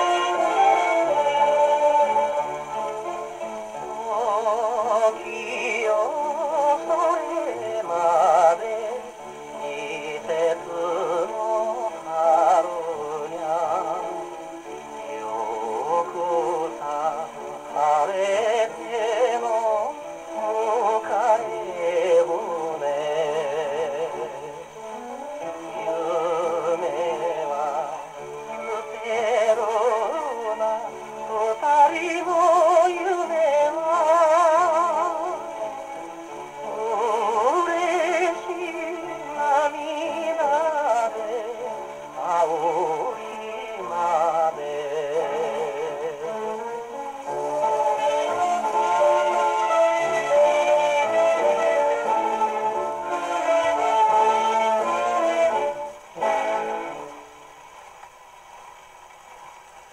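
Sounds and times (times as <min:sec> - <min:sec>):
man singing with vibrato: 0:00.0 - 0:57.5
instrumental accompaniment: 0:00.0 - 0:58.3
gramophone record playing: 0:00.0 - 0:59.9.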